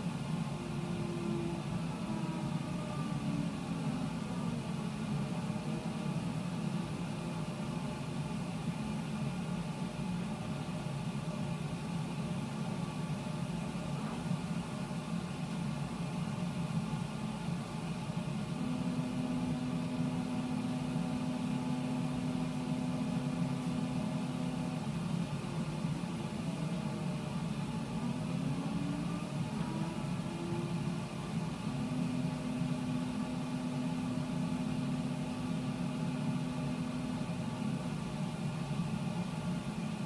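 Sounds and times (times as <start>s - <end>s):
laser cutter low hum: 0.0s - 40.0s.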